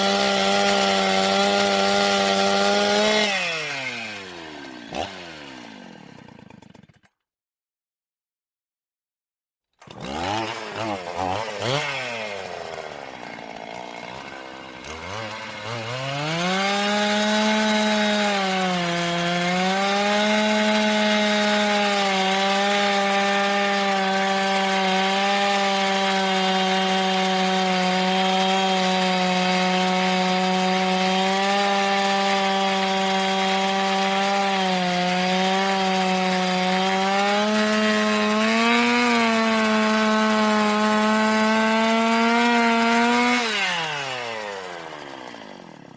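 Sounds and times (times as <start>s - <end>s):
chainsaw starting and revving: 0.0s - 7.2s, 9.8s - 45.9s.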